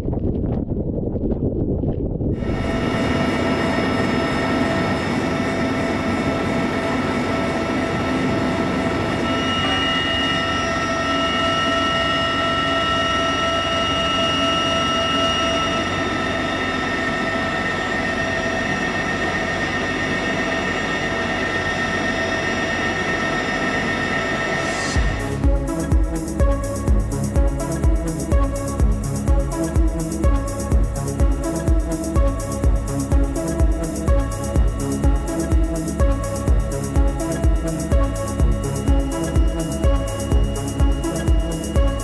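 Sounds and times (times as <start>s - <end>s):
helicopter engine drone: 2.4s - 42.0s
high steady whining tones: 2.4s - 42.0s.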